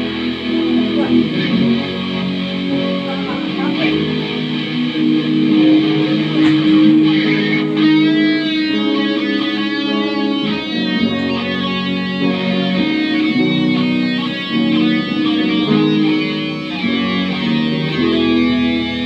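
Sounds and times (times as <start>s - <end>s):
electric guitar lead notes: 0.0s - 19.0s
strummed guitar chords: 0.0s - 19.0s.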